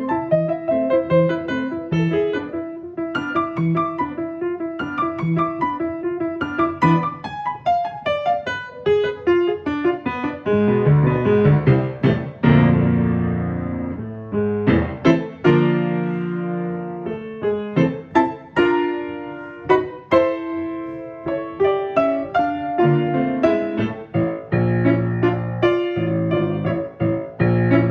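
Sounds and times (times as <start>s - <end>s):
piano playing: 0.0s - 27.9s.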